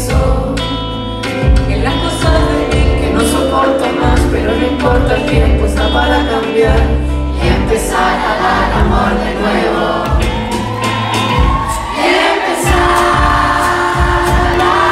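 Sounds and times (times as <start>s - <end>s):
women singing into microphones: 0.0s - 10.5s, 11.5s - 14.9s
electric guitar: 0.0s - 12.0s
audience voices: 0.0s - 14.9s
drum kit: 0.0s - 14.9s
congas: 0.1s - 14.9s.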